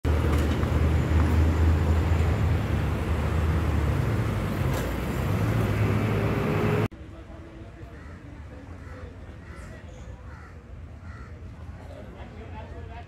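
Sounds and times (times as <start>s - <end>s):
motorcycles and traffic passing: 0.1s - 12.2s.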